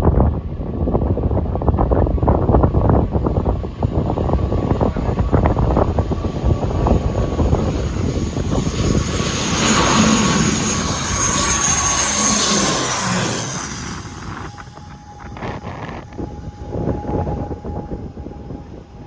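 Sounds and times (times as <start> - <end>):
airliner passing overhead: 0.0 - 19.0
wind buffeting microphone: 0.0 - 19.0.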